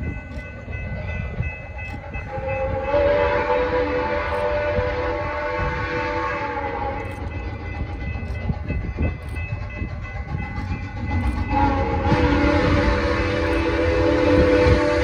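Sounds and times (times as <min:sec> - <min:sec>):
locomotive exhaust beats: 0:00.0 - 0:15.0
train rumbling on rails: 0:00.0 - 0:15.0
steam locomotive whistle chord: 0:01.0 - 0:08.2, 0:09.6 - 0:15.0.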